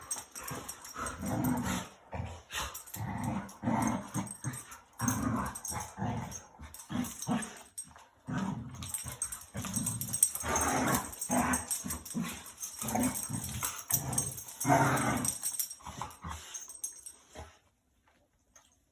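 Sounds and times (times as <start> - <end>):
dogs growling: 0.0 - 17.1.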